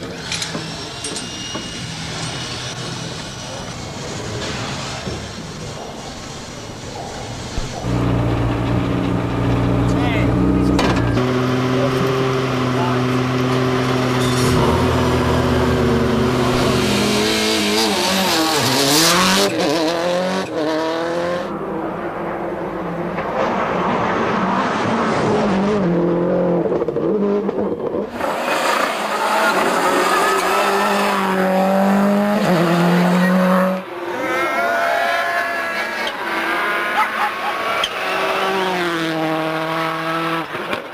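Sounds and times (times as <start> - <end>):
rally car engines at full throttle: 0.0 - 34.8, 35.4 - 40.9.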